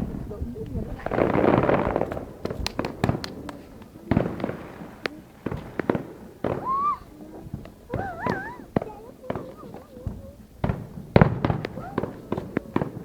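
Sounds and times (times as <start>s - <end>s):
fireworks bangs and crackles: 0.0s - 13.0s
fireworks rushing burst: 0.0s - 13.0s.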